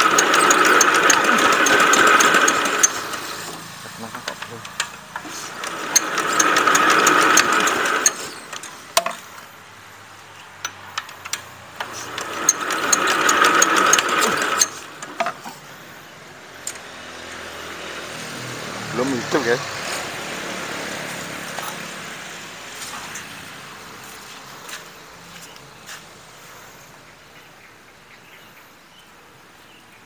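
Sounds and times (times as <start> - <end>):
diesel engine being hand-cranked: 0.0 - 26.1.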